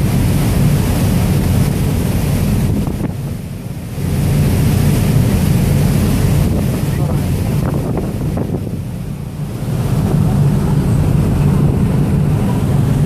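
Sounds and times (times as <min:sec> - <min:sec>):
boat rushing through water: 0:00.0 - 0:13.0
wind buffeting microphone: 0:00.0 - 0:13.0.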